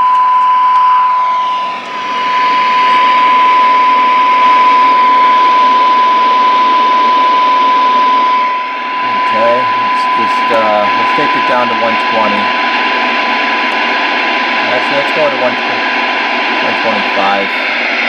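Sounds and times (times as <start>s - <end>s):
steady radio test tone: 0.0s - 18.0s.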